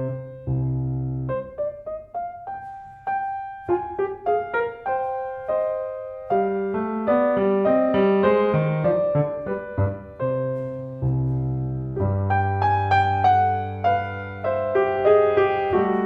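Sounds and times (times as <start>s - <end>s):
solo piano melody: 0.0s - 16.0s.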